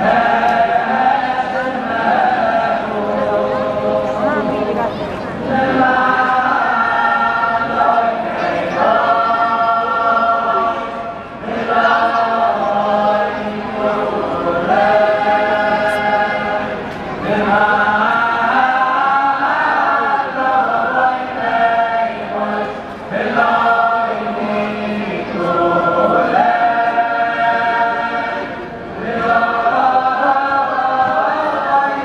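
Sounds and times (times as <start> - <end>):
crowd of men singing: 0.0 - 32.0.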